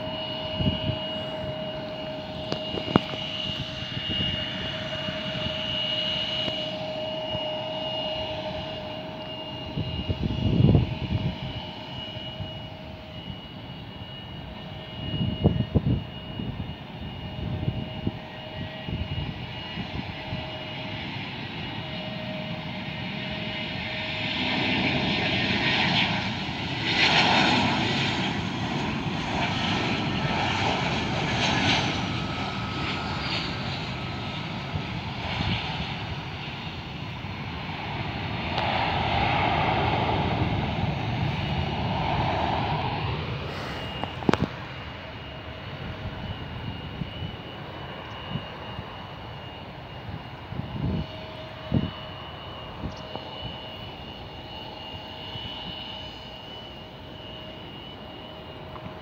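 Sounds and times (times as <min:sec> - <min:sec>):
jet engine whine: 0:00.0 - 0:59.0
jet landing roar: 0:00.0 - 0:59.0.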